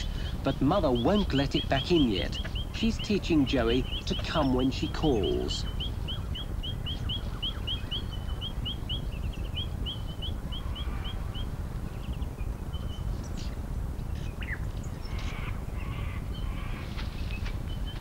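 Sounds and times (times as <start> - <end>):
bird chirping rapidly: 0.0 - 18.0
harsh bird calls: 0.0 - 18.0.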